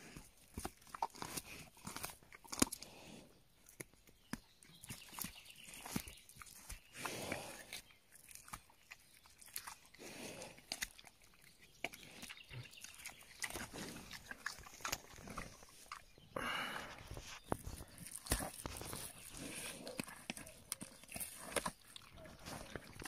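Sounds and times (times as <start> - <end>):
animal chewing raw fish: 0.0 - 23.0.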